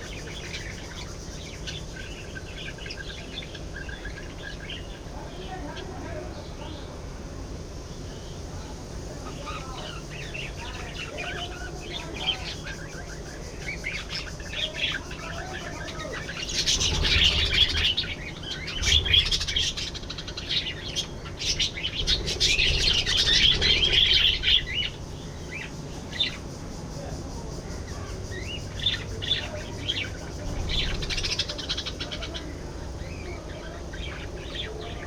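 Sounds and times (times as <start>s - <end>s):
budgerigars chirping and warbling: 0.0s - 6.8s, 9.1s - 26.5s, 27.6s - 35.0s.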